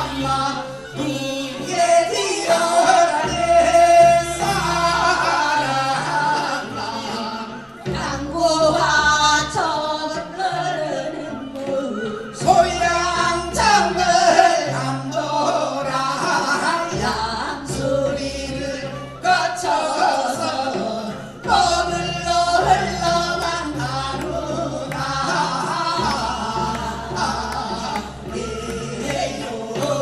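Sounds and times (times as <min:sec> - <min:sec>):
group of people singing folk song: 0:00.0 - 0:30.0.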